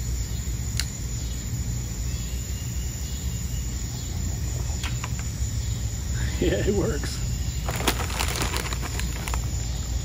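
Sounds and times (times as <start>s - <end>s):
faint high insect trill: 0.0s - 10.0s.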